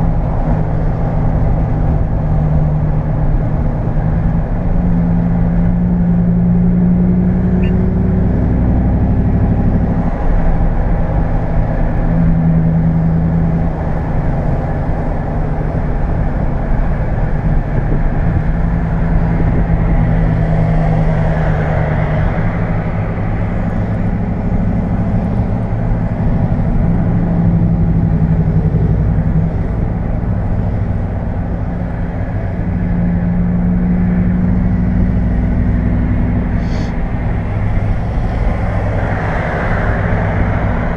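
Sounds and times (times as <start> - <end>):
pickup engine drone: 0.0 - 40.9
road noise: 0.0 - 40.9.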